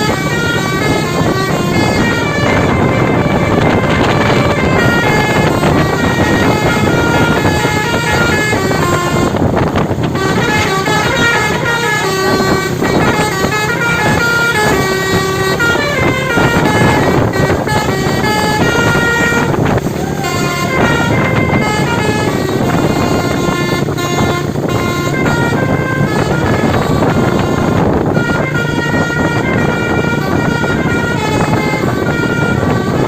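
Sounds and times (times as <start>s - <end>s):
engine and street noise: 0.0s - 33.0s
multi-tone air horn melody: 0.0s - 33.0s.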